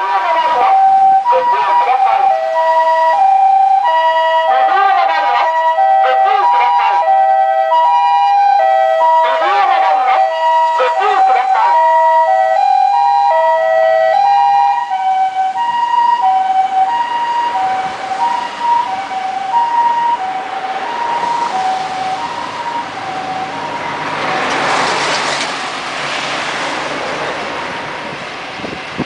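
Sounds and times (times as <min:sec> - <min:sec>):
two-tone ambulance siren: 0:00.0 - 0:26.7
vehicles passing close by: 0:00.0 - 0:29.0.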